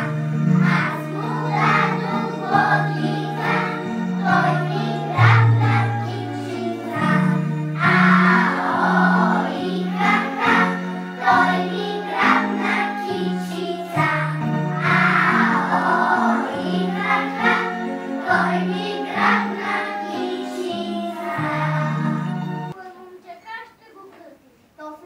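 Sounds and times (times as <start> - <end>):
choir singing folk song: 0.0 - 22.8.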